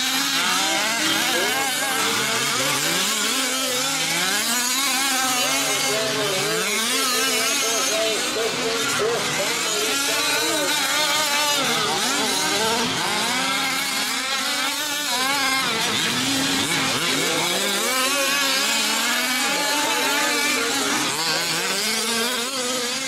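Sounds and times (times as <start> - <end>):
small two-stroke engines revving: 0.0 - 23.0.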